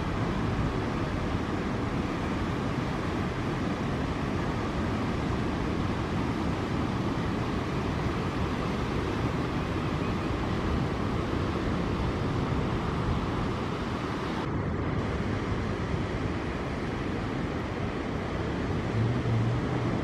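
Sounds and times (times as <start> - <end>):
ocean surf roar: 0.0 - 20.0.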